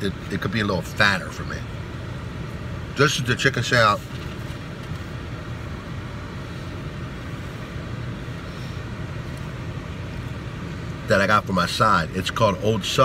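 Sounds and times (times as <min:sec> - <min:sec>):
air conditioning air rush: 0:00.0 - 0:13.0
car engine idling: 0:00.0 - 0:13.0.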